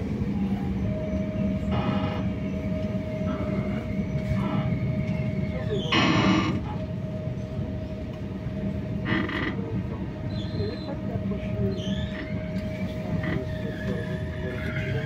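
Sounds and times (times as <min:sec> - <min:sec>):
constant hum: 0:00.0 - 0:15.0
train running gear rumble: 0:00.0 - 0:15.0.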